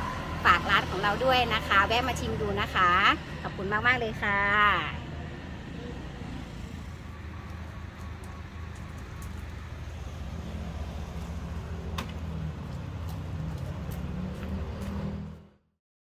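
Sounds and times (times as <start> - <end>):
street background noise: 0.0 - 15.7.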